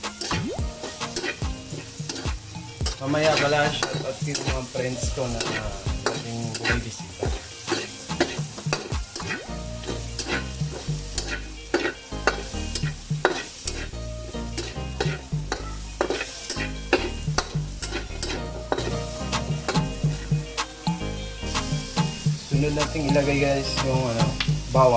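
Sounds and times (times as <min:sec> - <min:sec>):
onion sizzling in hot oil: 0:00.0 - 0:24.9.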